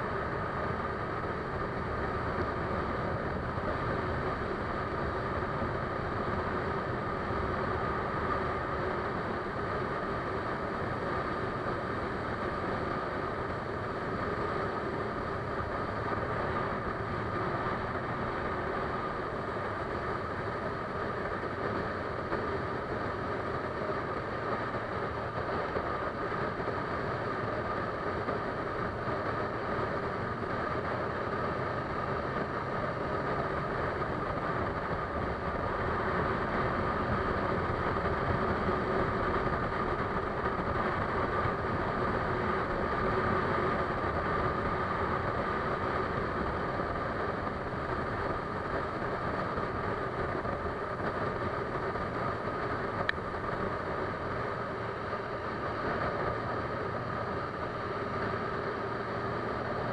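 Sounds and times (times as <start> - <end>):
steady engine noise: 0.0 - 59.9.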